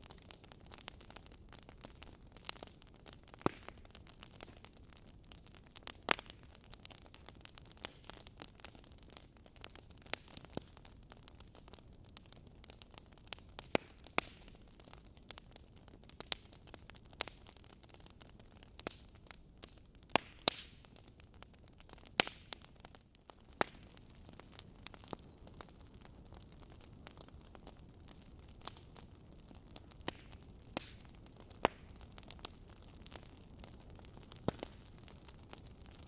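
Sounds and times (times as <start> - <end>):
fire hissing: 0.0 - 36.0
logs crackling and popping: 0.0 - 36.0.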